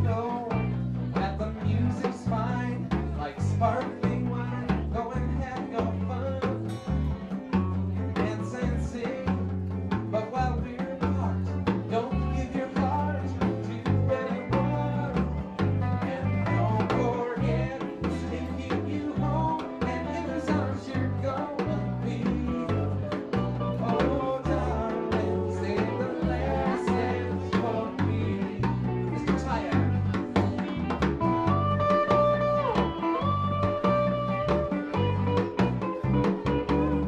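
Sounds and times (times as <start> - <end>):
bass line: 0.0 - 37.0
drums: 0.0 - 37.0
electric guitar: 0.0 - 37.0
person singing: 0.0 - 37.0.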